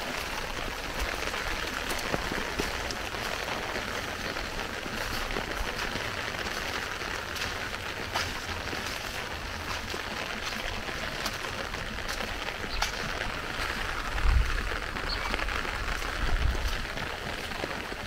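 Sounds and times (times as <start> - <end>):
heavy rain: 0.0 - 18.0
raindrop splashes: 0.0 - 18.0.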